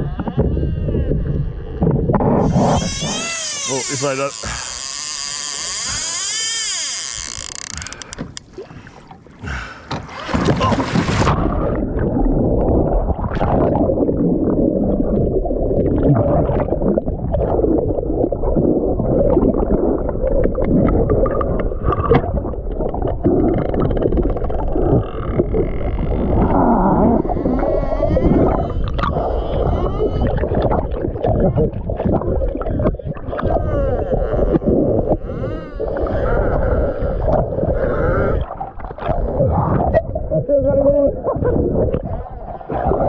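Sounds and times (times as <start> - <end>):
muffled churning water: 0.0 - 43.0.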